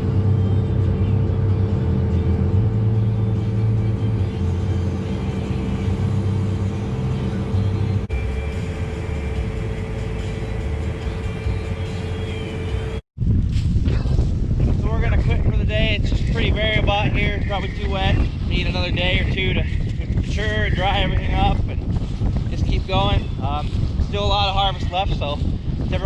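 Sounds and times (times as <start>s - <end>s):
farm machinery engine droning: 0.0s - 13.6s, 14.3s - 26.0s.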